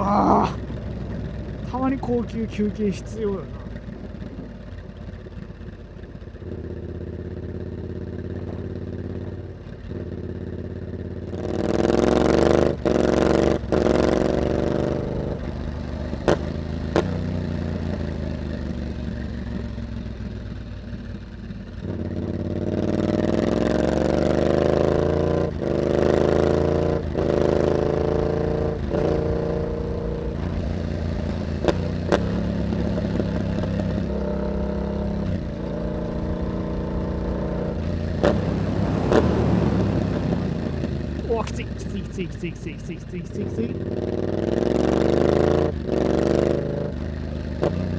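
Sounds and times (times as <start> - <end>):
motorcycle engine accelerating: 3.4 - 47.9.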